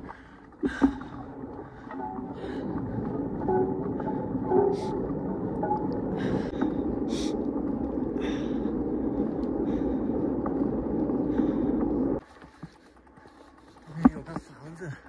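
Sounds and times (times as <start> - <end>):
road noise from bicycle: 0.0 - 15.0.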